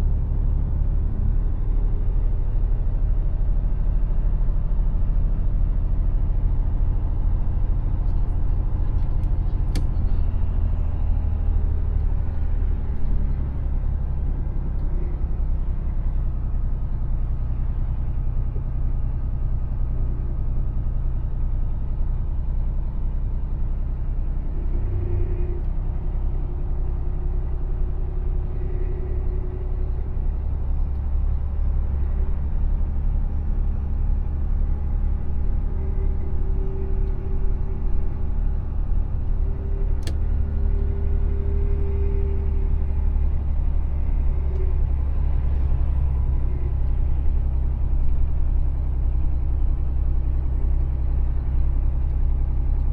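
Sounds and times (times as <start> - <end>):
truck diesel engine drone: 0.0 - 52.9.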